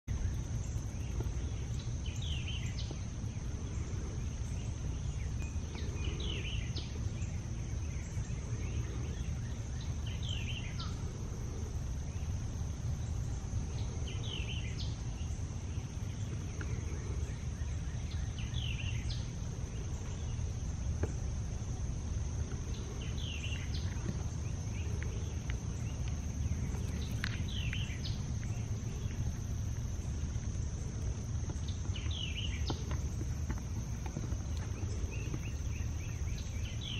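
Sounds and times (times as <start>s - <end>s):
songbird chirping: 0.0s - 36.9s
insect drone: 0.1s - 36.9s.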